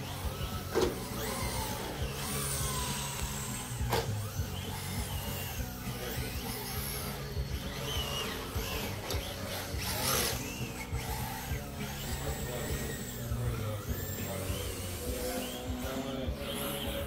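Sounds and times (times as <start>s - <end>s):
music playing: 0.0s - 17.0s
rc car motors whining: 0.0s - 17.0s.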